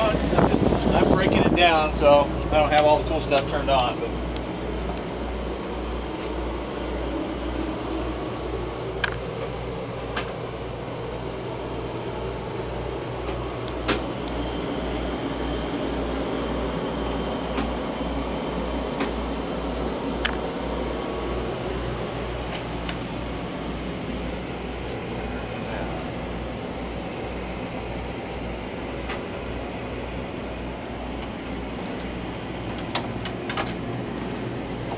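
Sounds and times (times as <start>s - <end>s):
ventilation hum and throb: 0.0s - 34.9s.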